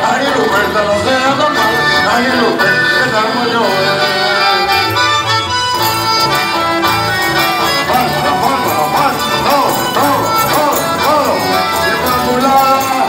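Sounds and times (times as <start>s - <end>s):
amplified accordions: 0.0s - 13.0s
folk band playing live: 0.0s - 13.0s
repeating bass line: 0.0s - 13.0s.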